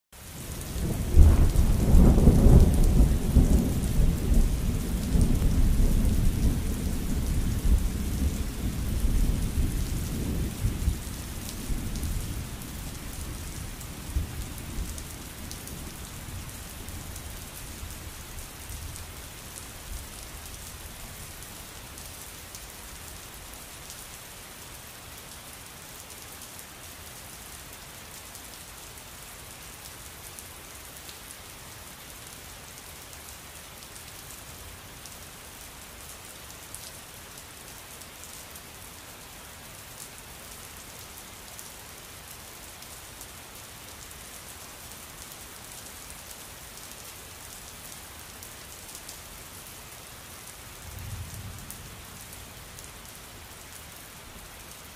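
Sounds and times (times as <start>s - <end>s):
steady rain: 0.1s - 54.9s.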